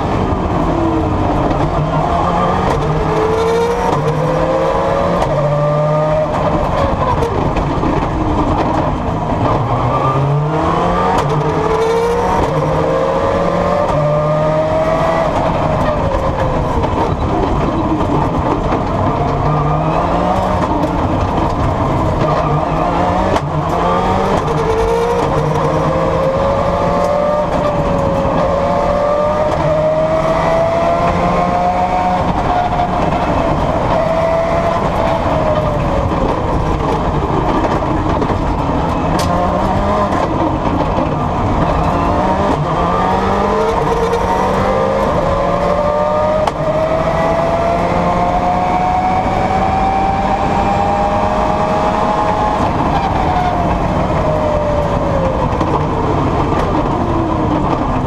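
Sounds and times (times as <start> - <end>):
rally car engine revving: 0.0 - 58.0
road noise rumble: 0.0 - 58.0.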